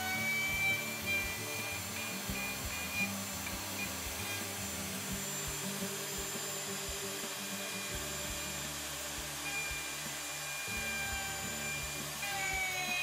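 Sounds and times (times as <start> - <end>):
background music: 0.0 - 13.0
electric router cutting wood: 0.0 - 13.0.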